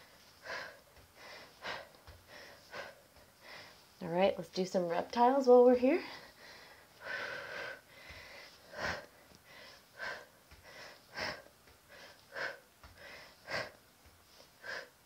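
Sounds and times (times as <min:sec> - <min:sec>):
woman breathing hard: 0:00.0 - 0:04.0, 0:06.0 - 0:15.0.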